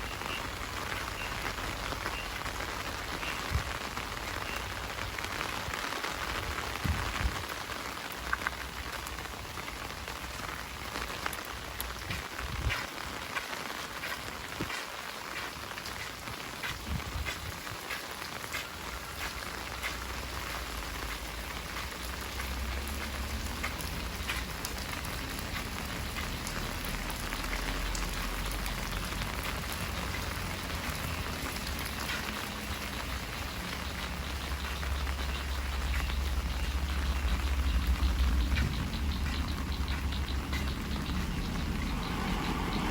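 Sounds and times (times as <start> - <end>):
heavy rain: 0.0 - 42.9
raindrops ticking: 0.0 - 42.9.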